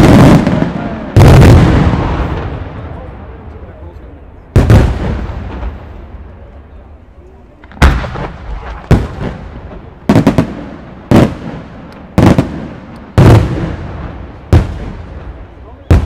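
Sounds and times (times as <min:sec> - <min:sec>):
firework shells booming: 0:00.0 - 0:03.3, 0:04.5 - 0:06.1, 0:07.6 - 0:16.0.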